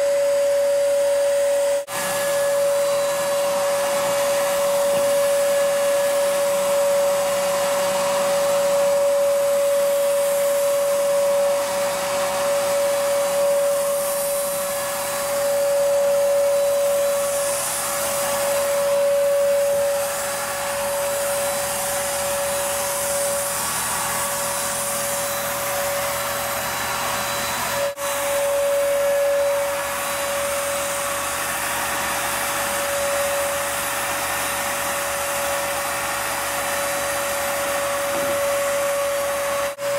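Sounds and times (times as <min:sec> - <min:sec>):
paint sprayer motor whine: 0:00.0 - 0:39.9.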